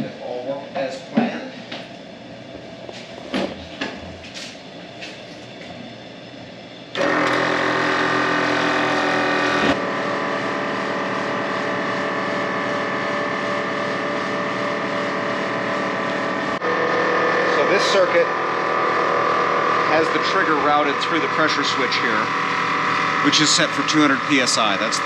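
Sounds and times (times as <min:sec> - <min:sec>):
air compressor running: 0:02.6 - 0:25.0.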